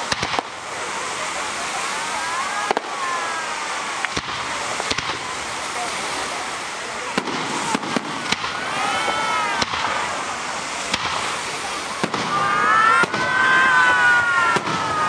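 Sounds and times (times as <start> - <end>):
fireworks bursting: 0.0 - 15.0
steady hiss: 0.0 - 15.0.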